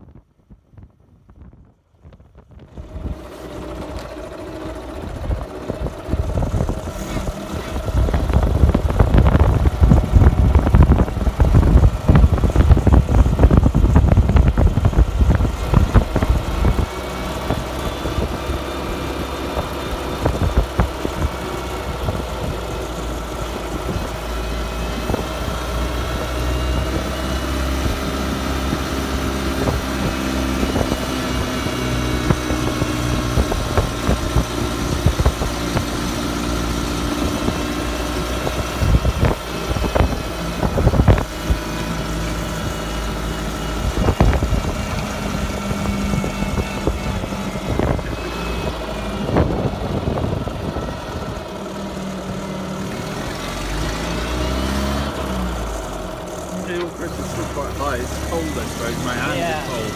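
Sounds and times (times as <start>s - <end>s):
heavy buffeting rumble: 0.0s - 59.9s
small car engine running: 0.8s - 59.9s.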